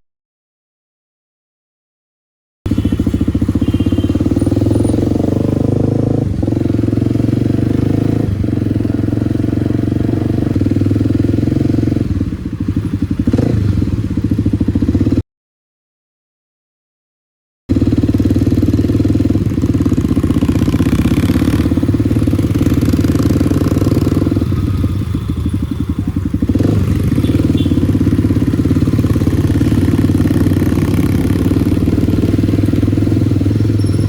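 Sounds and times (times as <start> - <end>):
motorcycle engine running: 2.7 - 15.2, 17.7 - 34.0.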